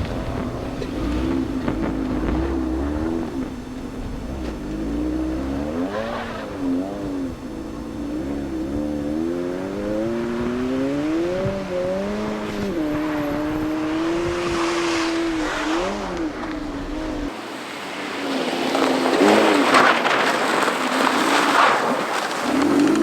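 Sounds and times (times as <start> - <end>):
car engine revving hard: 0.0 - 21.4
tyres sliding on snow: 0.0 - 23.0.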